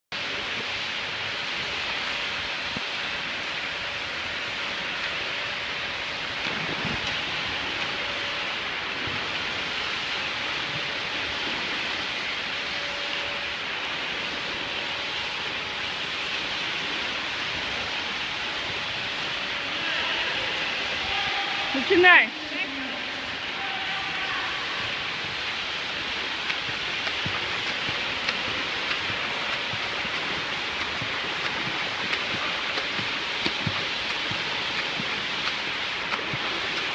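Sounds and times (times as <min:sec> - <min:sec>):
water splashing in swimming pool: 0:00.2 - 0:36.9.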